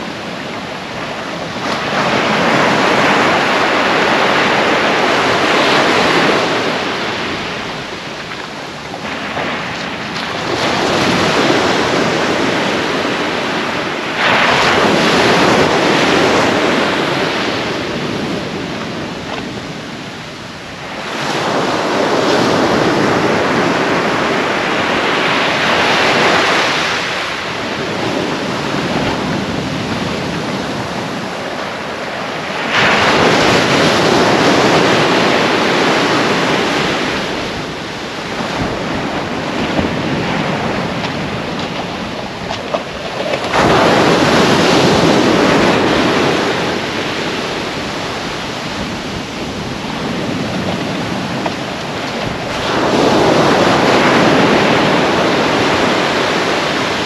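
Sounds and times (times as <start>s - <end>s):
waves breaking on beach: 0.0s - 57.0s
wind buffeting microphone: 0.0s - 57.0s.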